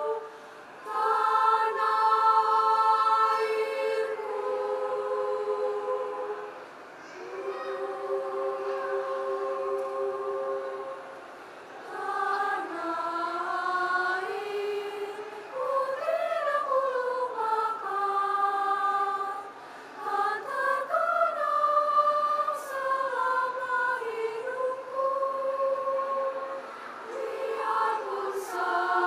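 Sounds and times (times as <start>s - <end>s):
choir singing in parts: 0.0s - 29.0s.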